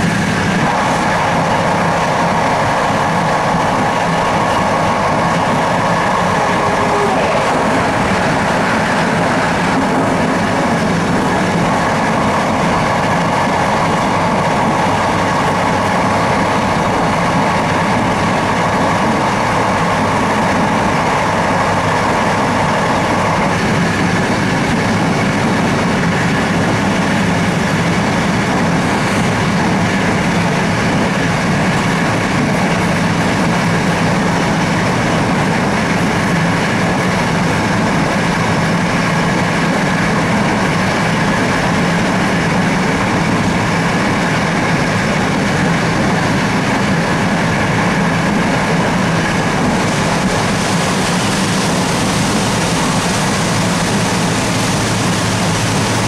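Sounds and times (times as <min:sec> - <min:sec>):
train wheels rumbling on rails: 0:00.0 - 0:56.0
train whine: 0:00.0 - 0:56.0.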